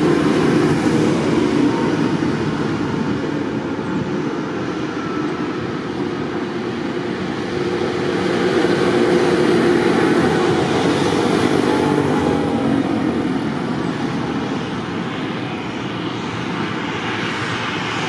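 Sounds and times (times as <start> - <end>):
tractor engine drone: 0.0 - 18.0.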